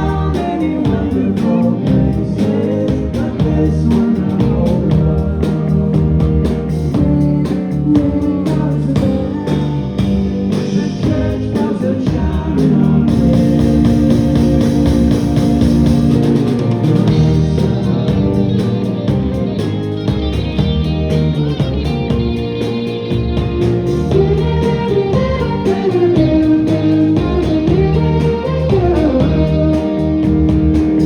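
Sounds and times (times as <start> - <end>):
lead vocal singing: 0.0 - 19.3, 24.1 - 31.0
drums beating: 0.0 - 31.0
rock band playing live: 0.0 - 31.0.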